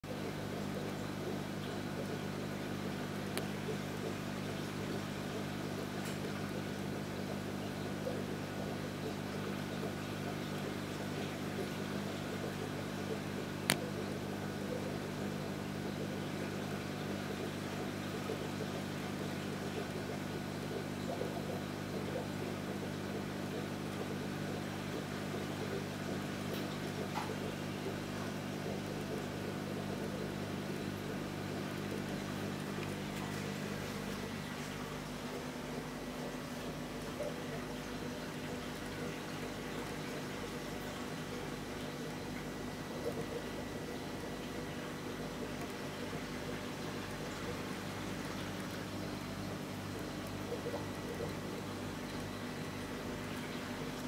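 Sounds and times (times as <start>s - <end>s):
aquarium pumps humming: 0.0s - 54.0s.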